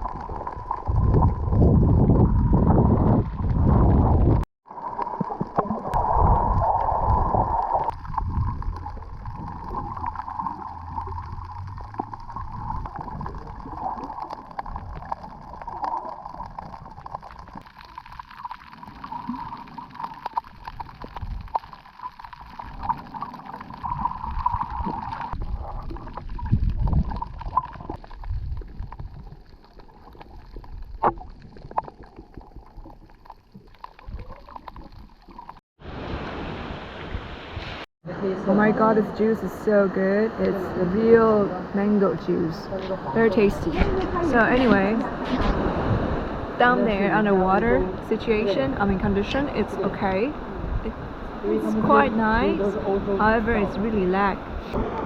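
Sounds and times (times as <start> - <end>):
underwater gurgling and sloshing: 0.0 - 37.9, 38.6 - 55.0.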